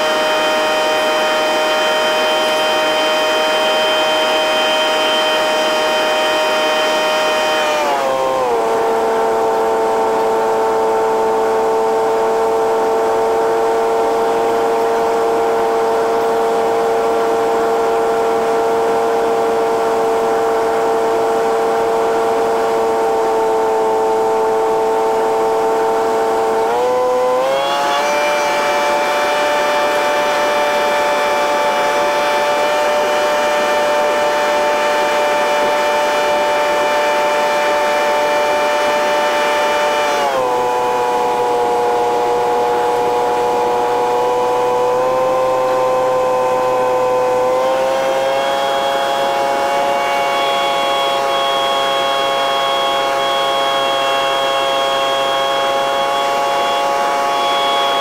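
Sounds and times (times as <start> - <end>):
airplane engine and propeller droning: 0.0 - 58.0.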